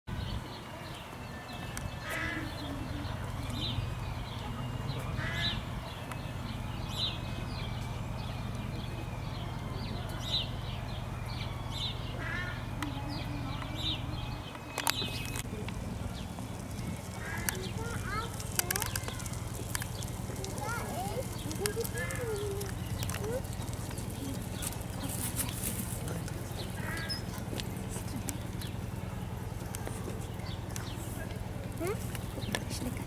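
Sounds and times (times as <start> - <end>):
birds chirping: 0.1 - 33.0
steady low hum: 0.1 - 33.0.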